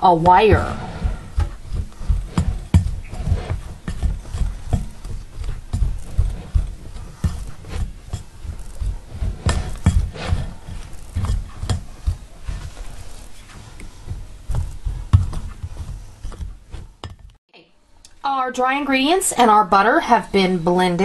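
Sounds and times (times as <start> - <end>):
gritty scraping: 0.0 - 17.3.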